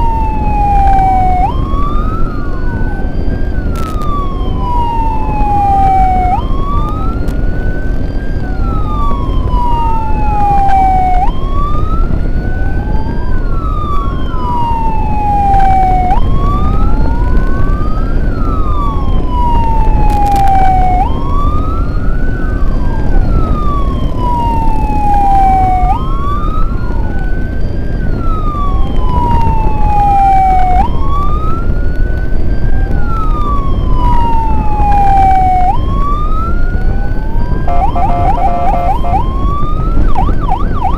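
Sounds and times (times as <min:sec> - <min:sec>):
road and wind noise: 0:00.0 - 0:40.9
second fainter siren: 0:00.0 - 0:40.9
siren wailing: 0:00.0 - 0:40.9.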